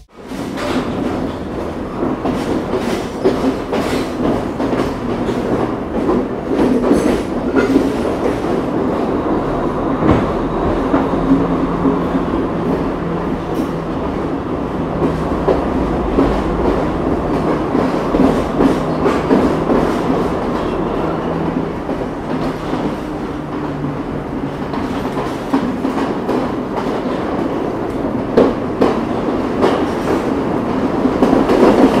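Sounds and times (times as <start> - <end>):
steady train rumble: 0.0 - 32.0
train wheels clattering: 0.2 - 32.0.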